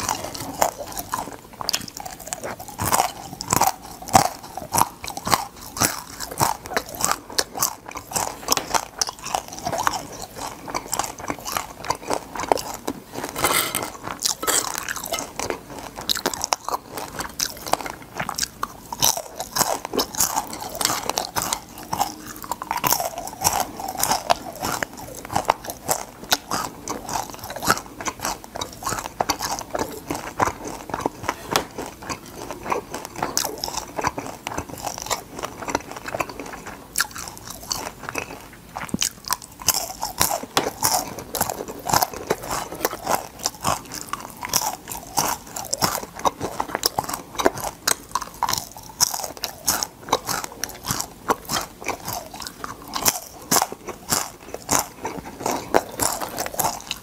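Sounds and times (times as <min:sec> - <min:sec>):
crunching and chewing fried crab: 0:00.0 - 0:57.0.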